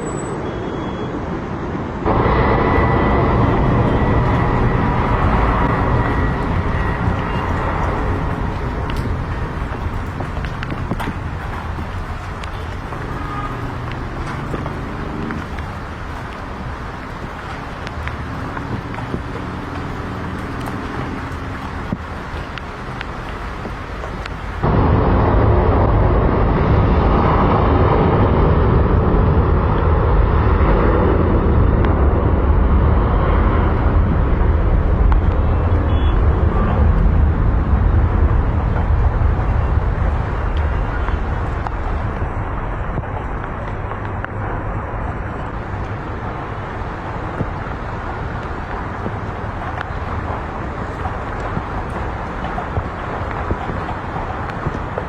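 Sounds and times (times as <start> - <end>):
aircraft engine rumble: 0.7 - 55.0.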